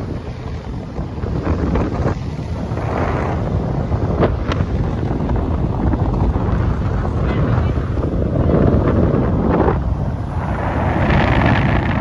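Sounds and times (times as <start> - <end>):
boat engine rushing: 0.0 - 12.0
water rushing along hull: 0.0 - 12.0
wind buffeting microphone: 0.0 - 12.0.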